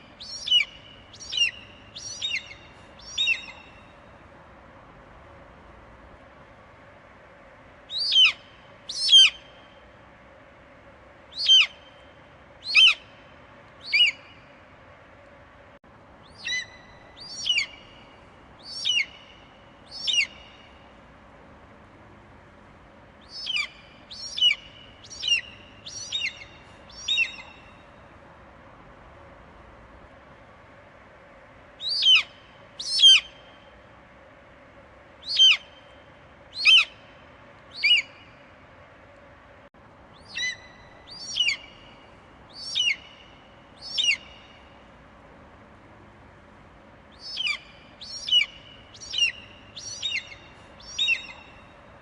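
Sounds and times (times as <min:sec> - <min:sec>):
faint steady hiss: 0:00.0 - 0:52.0.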